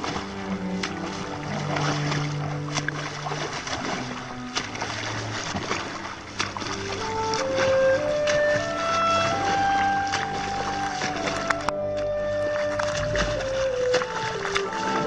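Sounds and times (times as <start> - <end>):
background music: 0.0 - 15.0
rushing water from boat: 0.0 - 15.0.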